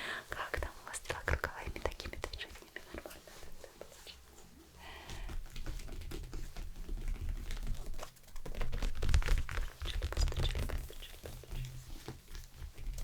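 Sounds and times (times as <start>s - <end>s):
hands rubbing on microphone: 0.4s - 6.6s, 7.2s - 13.0s.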